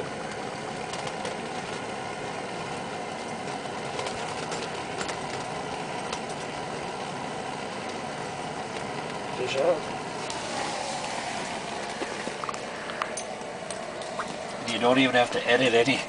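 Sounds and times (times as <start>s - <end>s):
steady rushing hum: 0.0s - 16.0s.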